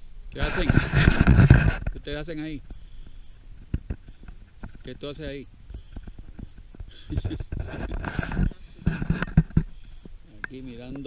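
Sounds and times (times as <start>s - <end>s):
footsteps: 0.4s - 11.0s.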